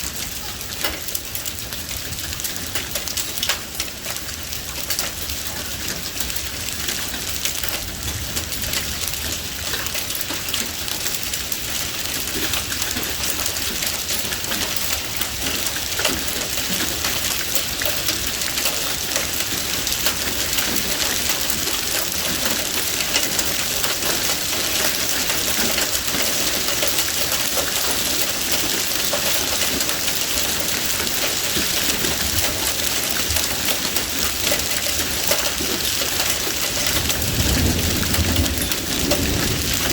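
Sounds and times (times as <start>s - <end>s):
heavy rain drumming on surfaces: 0.0s - 39.9s.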